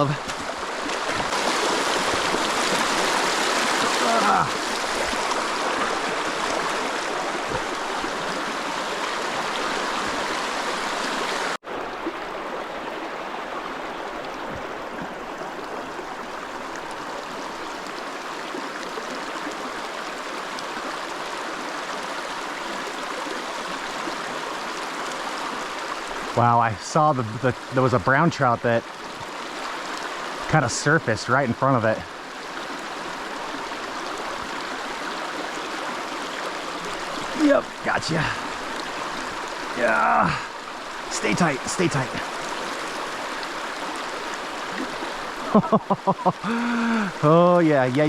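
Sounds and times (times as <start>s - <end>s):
creek water rushing over rocks: 0.0s - 48.0s.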